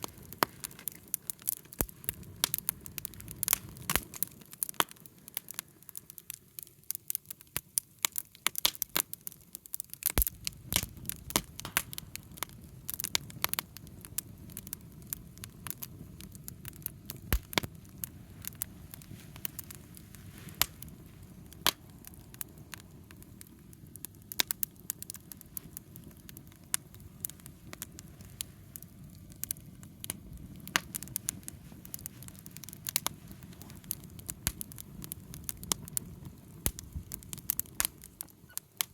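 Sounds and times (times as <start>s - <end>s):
campfire crackling and popping: 0.0s - 38.9s
low rumble of fire: 0.0s - 38.9s.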